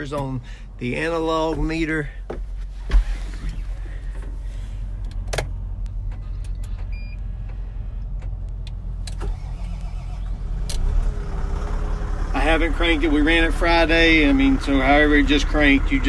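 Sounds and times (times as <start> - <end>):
diesel engine cranking and starting: 2.8 - 16.0.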